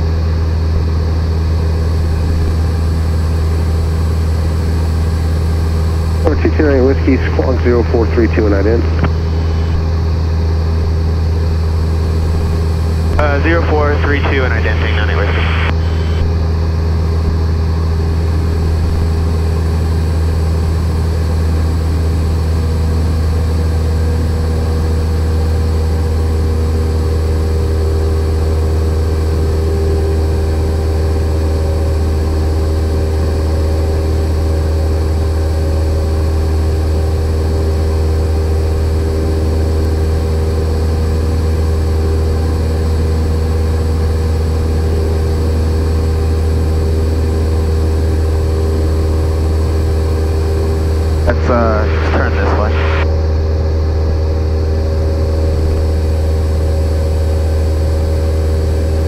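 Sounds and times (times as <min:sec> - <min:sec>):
light airplane engine drone: 0:00.0 - 0:59.0.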